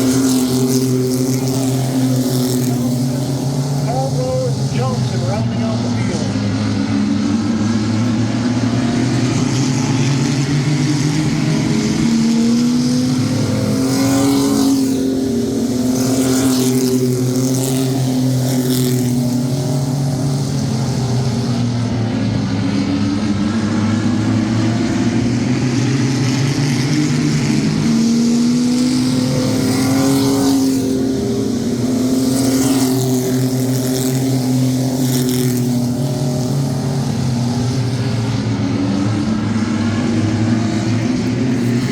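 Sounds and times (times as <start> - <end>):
race truck engines revving: 0.0 - 41.9.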